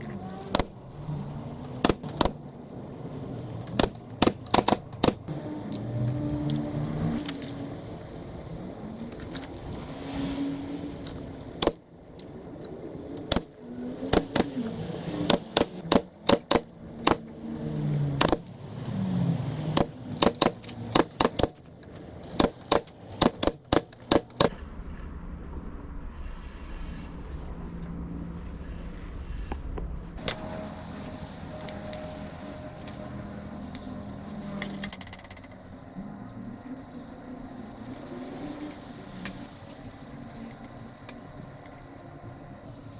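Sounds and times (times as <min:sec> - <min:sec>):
sharp clicks and knocks: 0:00.0 - 0:10.0, 0:11.0 - 0:24.6, 0:30.2 - 0:42.9.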